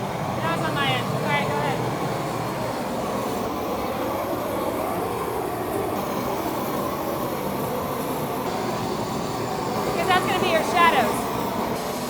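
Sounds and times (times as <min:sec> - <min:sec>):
propane torch flame: 0:00.0 - 0:12.0.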